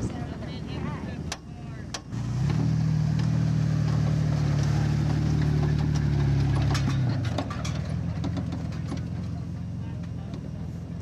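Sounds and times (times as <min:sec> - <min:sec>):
truck engine driving past: 0:02.0 - 0:11.0.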